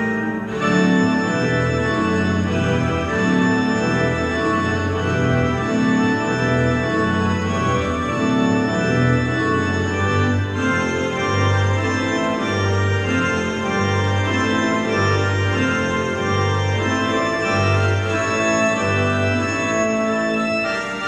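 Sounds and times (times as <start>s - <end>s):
organ chords on keyboard: 0.0s - 21.0s.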